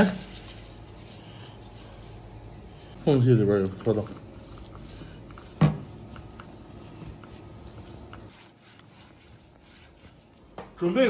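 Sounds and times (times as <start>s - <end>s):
hands rubbing raw meat: 0.0s - 10.6s.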